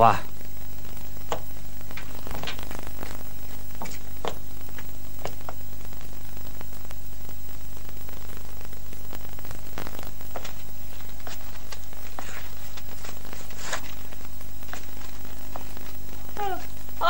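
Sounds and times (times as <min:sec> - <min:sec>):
mains hum and hiss: 0:00.0 - 0:17.0
faint clicks and crackles: 0:00.3 - 0:17.0.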